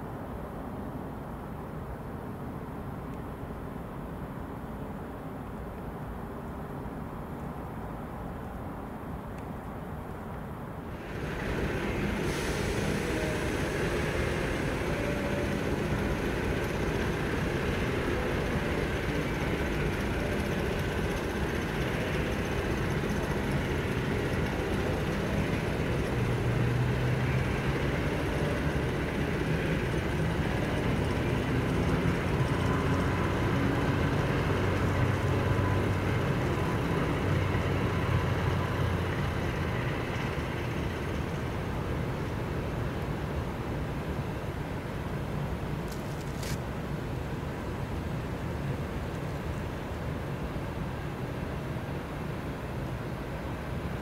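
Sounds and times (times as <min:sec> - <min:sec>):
diesel locomotive engine rumbling: 0:10.7 - 0:54.0.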